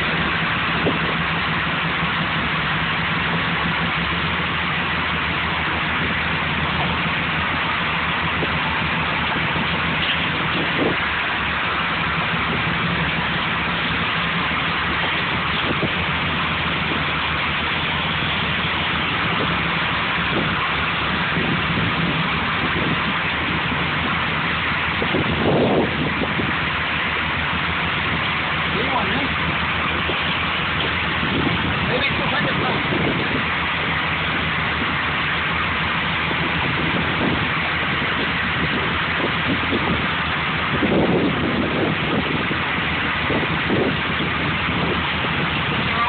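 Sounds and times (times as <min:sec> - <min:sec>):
boat engine idling: 0:00.0 - 0:46.0.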